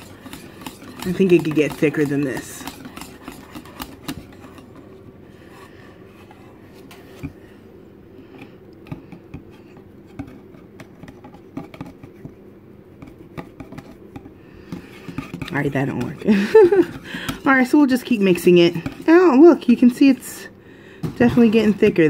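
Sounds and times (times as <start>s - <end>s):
whisk tapping and scraping bowl: 0.0s - 7.4s, 8.4s - 19.9s.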